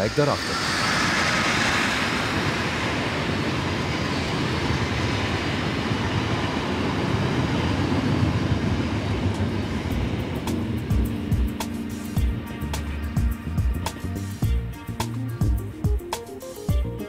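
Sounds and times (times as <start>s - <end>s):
train wheels rushing on rails: 0.0s - 14.6s.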